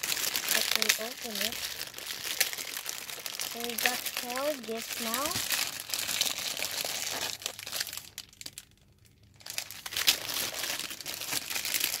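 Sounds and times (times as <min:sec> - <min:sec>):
gift wrapping crinkling: 0:00.0 - 0:12.0.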